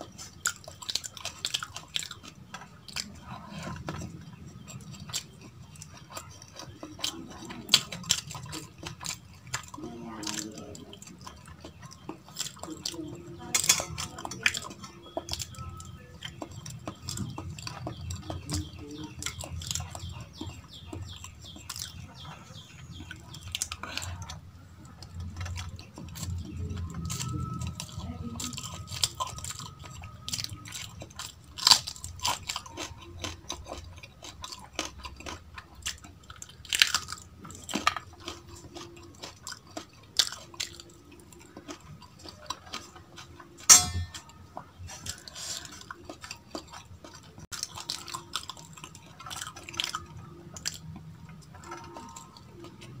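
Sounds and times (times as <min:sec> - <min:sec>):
person chewing: 0:00.0 - 0:53.0.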